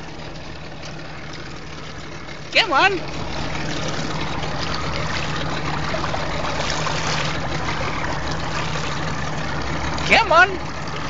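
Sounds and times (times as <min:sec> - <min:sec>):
boat motor idling: 0:00.0 - 0:11.0
water sloshing around hull: 0:00.0 - 0:11.0.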